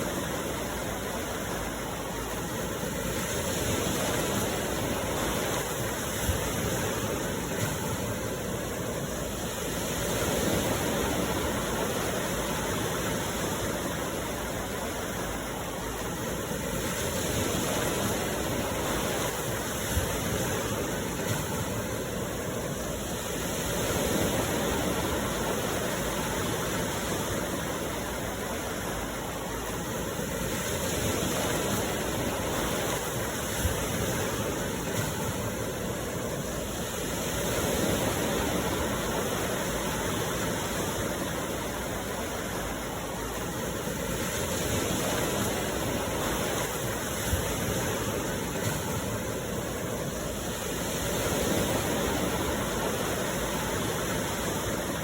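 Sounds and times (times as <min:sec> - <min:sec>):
sea waves washing ashore: 0:00.0 - 0:55.0.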